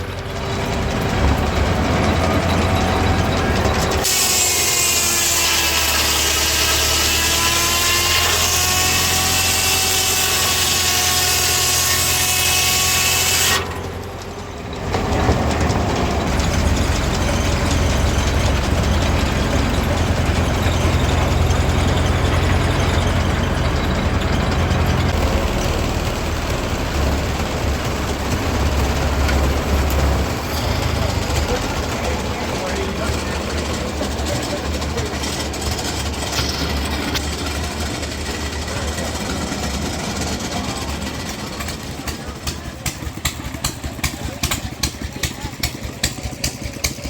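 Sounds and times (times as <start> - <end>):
engine low rumble: 0.0 - 11.5, 12.8 - 47.0
machinery high whine: 0.0 - 43.2.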